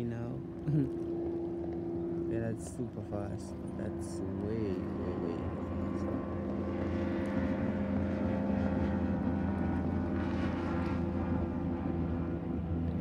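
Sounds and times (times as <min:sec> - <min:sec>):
speedboat engine running: 0:00.0 - 0:13.0.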